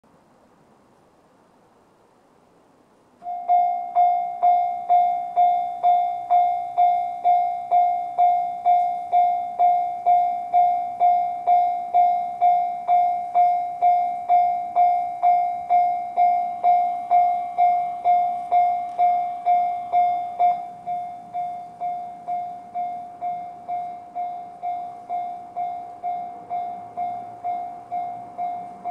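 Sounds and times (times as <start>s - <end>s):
level crossing alarm bell: 3.2s - 28.9s.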